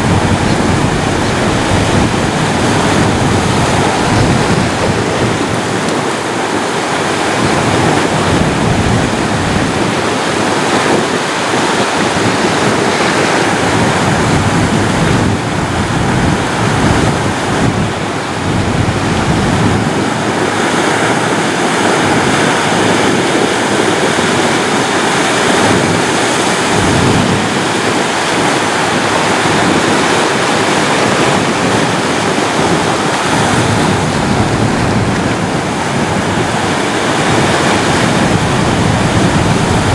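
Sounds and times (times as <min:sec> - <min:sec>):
ocean surf on shore: 0:00.0 - 0:39.9.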